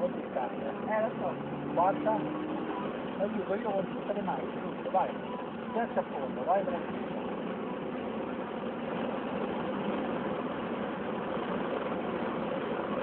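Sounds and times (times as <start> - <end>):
car engine under full throttle: 0.0 - 13.0
road and wind noise: 0.0 - 13.0.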